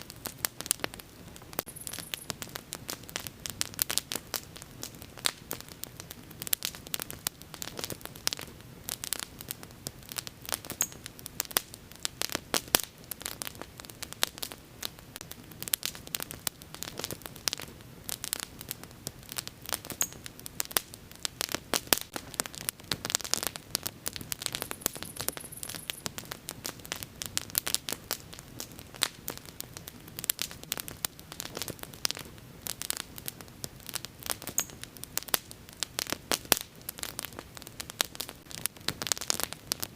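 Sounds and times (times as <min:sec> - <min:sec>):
bonfire crackling and popping: 0:00.0 - 0:39.9
soft steady hiss: 0:00.0 - 0:39.9.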